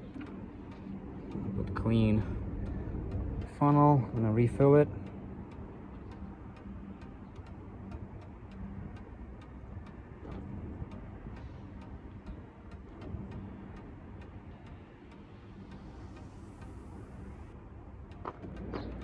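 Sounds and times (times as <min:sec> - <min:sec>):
low background hum: 0:00.0 - 0:19.0
regular ticking: 0:00.0 - 0:19.0.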